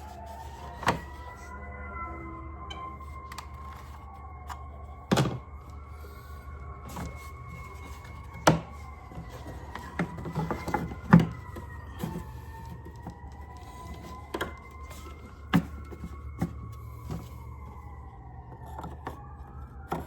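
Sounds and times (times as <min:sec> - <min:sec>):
truck low rumble: 0:00.0 - 0:20.0.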